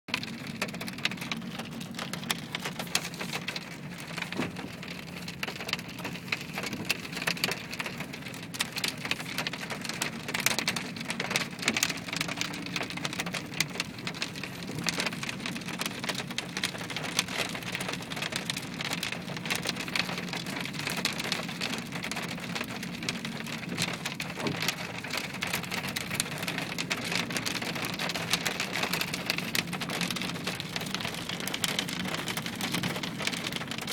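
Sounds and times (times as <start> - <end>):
hailstones clattering: 0.1 - 33.9.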